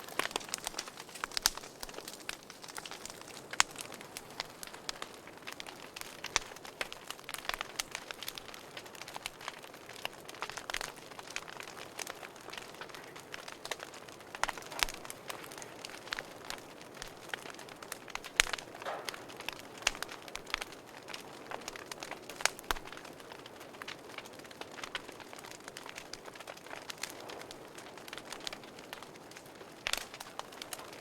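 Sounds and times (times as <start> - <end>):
fire snaps: 0.0 - 31.0
wood fire crackling: 0.0 - 31.0.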